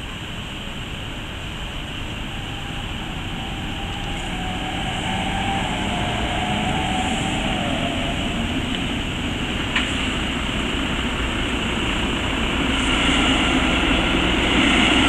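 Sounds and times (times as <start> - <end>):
train rumbling: 0.0 - 15.0
train whine: 0.0 - 15.0.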